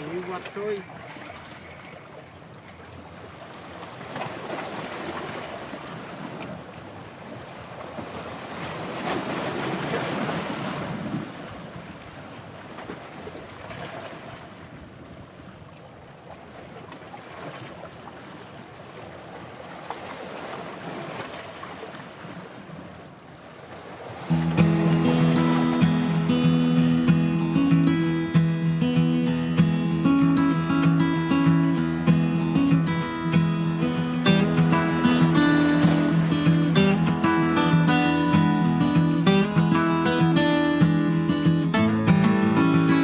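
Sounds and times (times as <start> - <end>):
waves washing on beach: 0.0 - 2.4, 3.0 - 43.0.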